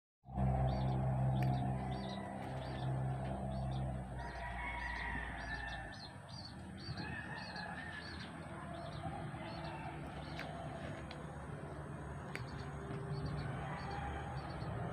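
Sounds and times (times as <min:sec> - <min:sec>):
low steady hum: 0:00.3 - 0:14.9
small birds chirping: 0:00.6 - 0:14.9.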